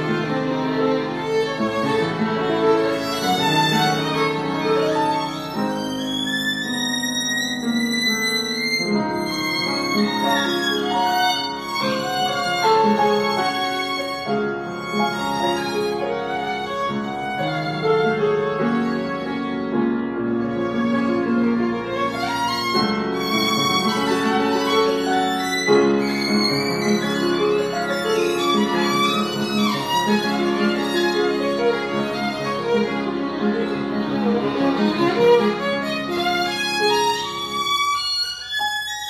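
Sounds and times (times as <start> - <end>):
piano accompaniment: 0.0 - 39.0
violin bowed: 0.0 - 39.0.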